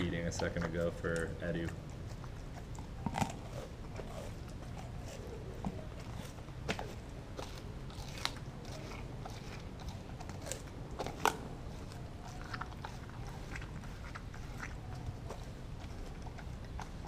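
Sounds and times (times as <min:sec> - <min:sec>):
dog chewing frozen meat: 0:00.0 - 0:17.0
sharp crunches: 0:02.6 - 0:17.0.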